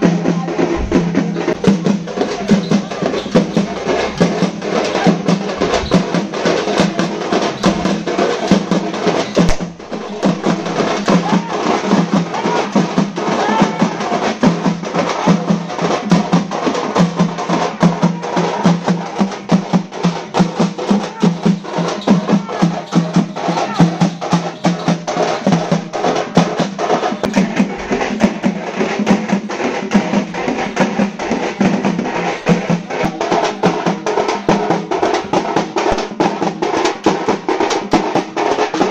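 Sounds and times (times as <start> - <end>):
frame drums beaten with sticks: 0.0 - 38.9.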